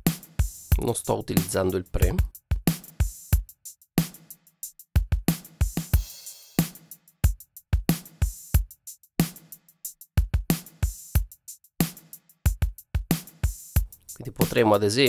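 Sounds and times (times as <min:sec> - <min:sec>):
drum groove: 0:00.0 - 0:15.0.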